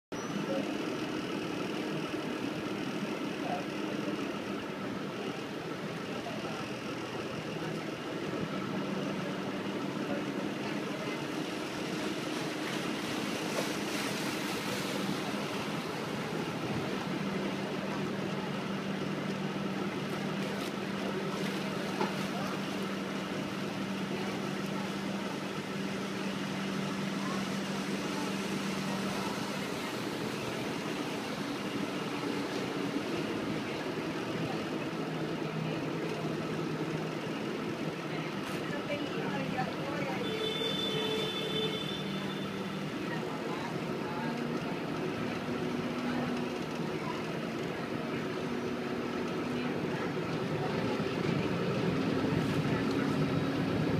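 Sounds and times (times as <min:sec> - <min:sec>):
wind: 0:00.0 - 0:53.9
boat engine drone: 0:00.1 - 0:53.9
water rushing: 0:00.6 - 0:53.9.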